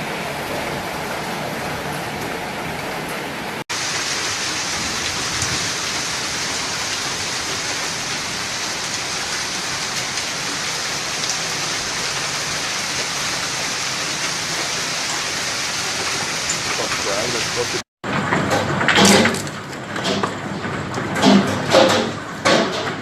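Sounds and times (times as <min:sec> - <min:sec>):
heavy rain downpour: 0:00.0 - 0:21.9.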